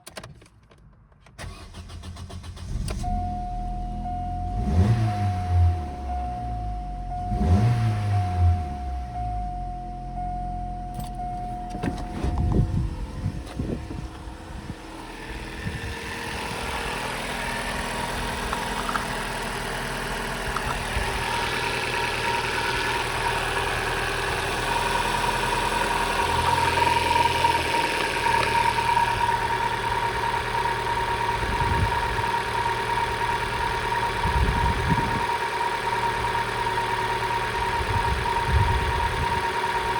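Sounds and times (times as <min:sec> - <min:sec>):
car engine idling: 0:01.4 - 0:39.9.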